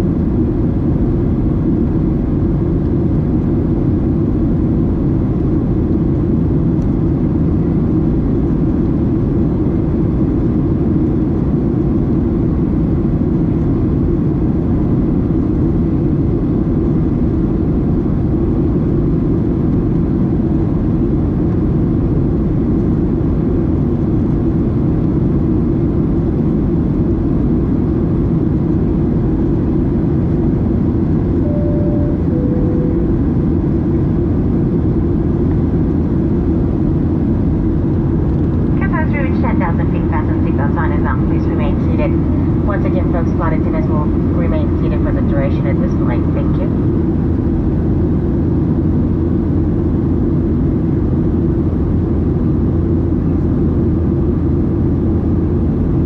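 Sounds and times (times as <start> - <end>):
airplane cabin roar: 0.0 - 56.0.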